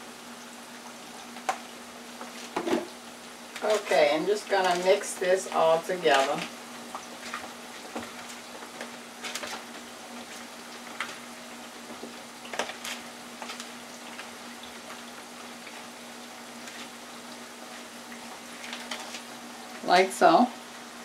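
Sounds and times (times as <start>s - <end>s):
fries sizzling in fryer: 0.0s - 21.0s.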